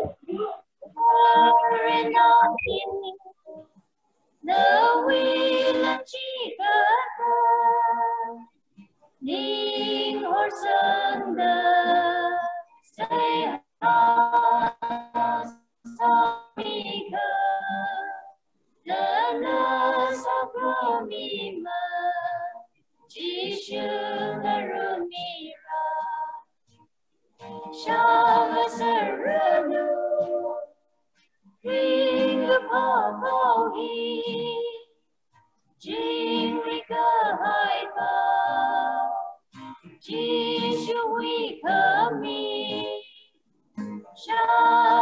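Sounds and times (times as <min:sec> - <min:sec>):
group singing a religious song: 0:00.0 - 0:03.2, 0:04.4 - 0:08.5, 0:09.2 - 0:26.5, 0:27.5 - 0:30.8, 0:31.6 - 0:34.8, 0:35.8 - 0:39.4, 0:40.0 - 0:43.3, 0:44.2 - 0:45.0.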